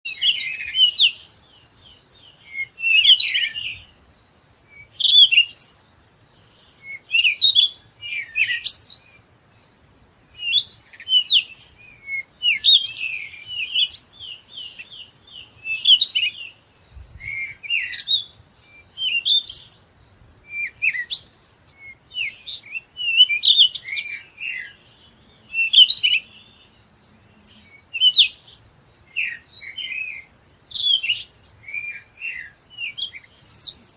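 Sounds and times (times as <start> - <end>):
songbird chirping: 0.0 - 33.9.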